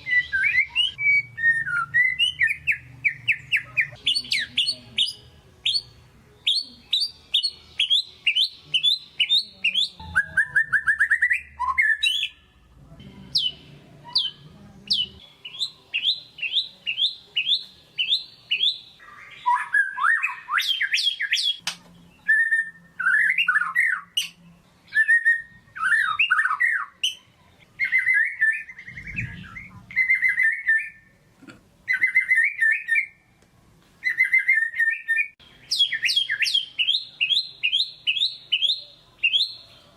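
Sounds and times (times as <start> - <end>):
songbird singing varied song: 0.0 - 12.4, 13.3 - 31.0, 34.0 - 39.9.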